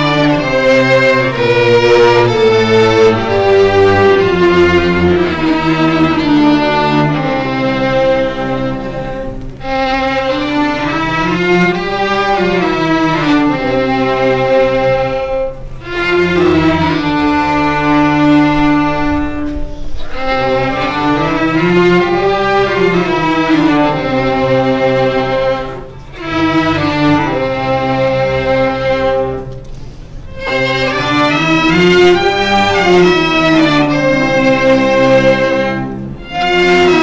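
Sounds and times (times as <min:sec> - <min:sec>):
string section: 0:00.0 - 0:37.0
violin slow melody: 0:00.0 - 0:37.0.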